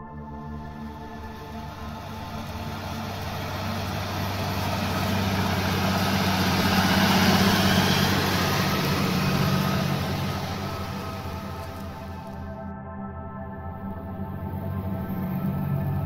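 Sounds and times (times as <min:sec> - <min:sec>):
tractor diesel engine under load: 0:00.4 - 0:12.5, 0:14.1 - 0:16.0.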